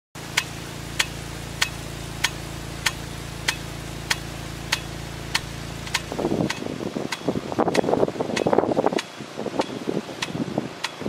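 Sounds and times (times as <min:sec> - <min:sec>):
sprinkler arm clicking: 0:00.2 - 0:11.0
water hissing: 0:00.2 - 0:11.0.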